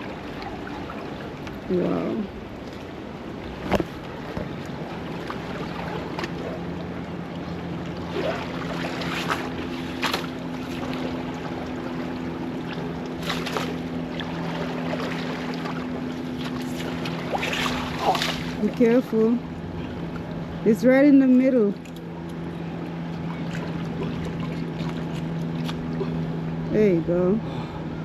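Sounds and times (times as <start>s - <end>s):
higher hum: 0.0s - 28.0s
water noise: 0.0s - 28.0s
wind: 0.0s - 28.0s.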